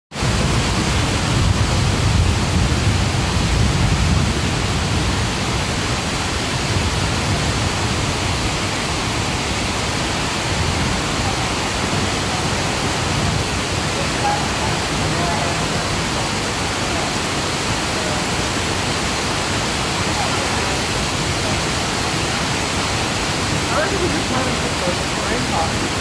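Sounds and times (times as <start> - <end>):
heavy rain on a street: 0.1 - 26.0.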